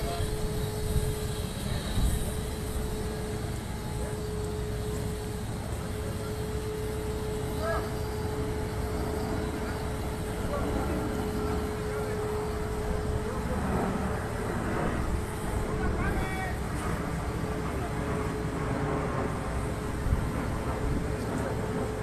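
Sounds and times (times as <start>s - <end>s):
gas flame roaring: 0.0s - 22.0s.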